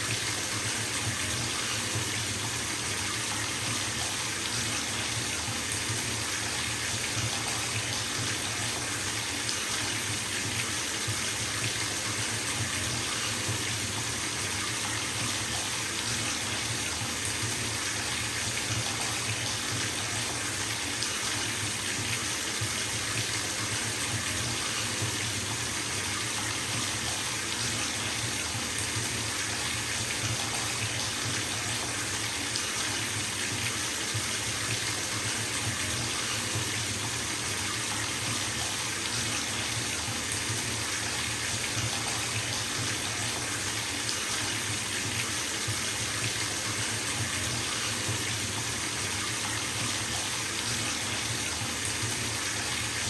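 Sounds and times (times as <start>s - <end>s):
tap water filling a bathtub: 0.0s - 53.0s.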